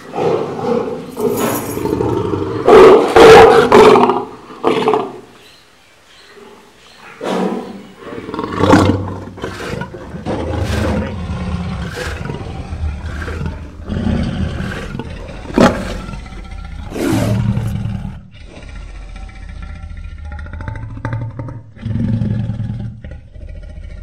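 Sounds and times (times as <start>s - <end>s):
lions growling: 0.0s - 5.3s, 6.4s - 24.0s.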